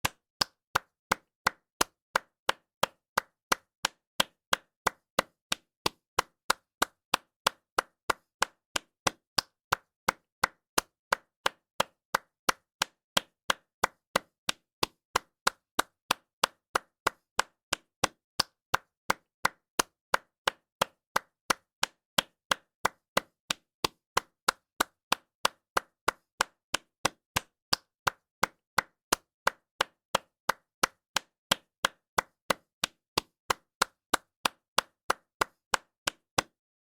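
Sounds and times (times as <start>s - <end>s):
person clapping hands: 0.0s - 36.6s.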